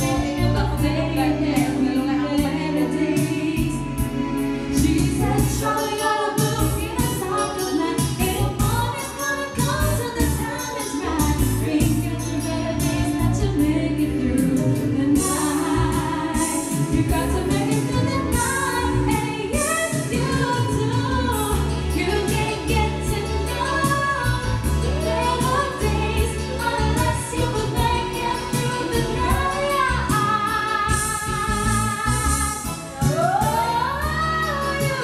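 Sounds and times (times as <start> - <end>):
instrumental backing music: 0.0 - 35.0
woman singing: 0.0 - 35.0.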